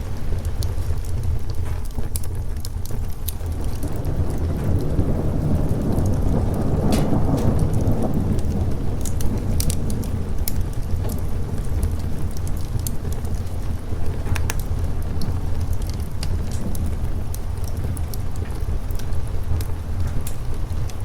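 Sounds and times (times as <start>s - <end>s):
sharp crackles: 0.0s - 21.0s
steady rain: 0.0s - 21.0s
thunder rumbling: 0.0s - 21.0s.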